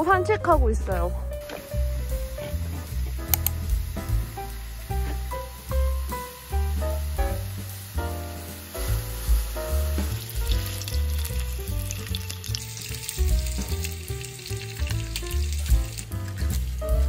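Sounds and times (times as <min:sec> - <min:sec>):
background music with bass: 0:00.0 - 0:17.0
food sizzling in frying pan: 0:01.3 - 0:17.0.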